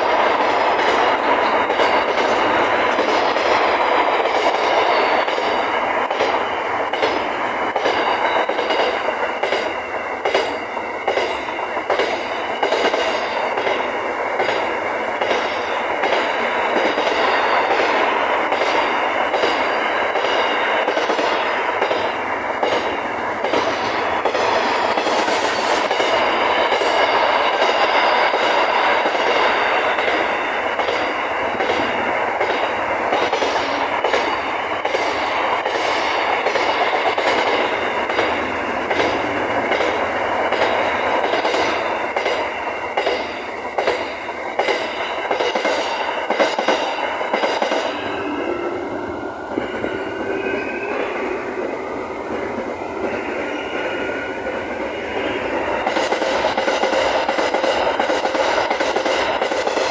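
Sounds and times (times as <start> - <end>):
freight train rumbling past: 0.0 - 59.9
train wheel clacks: 0.0 - 59.9.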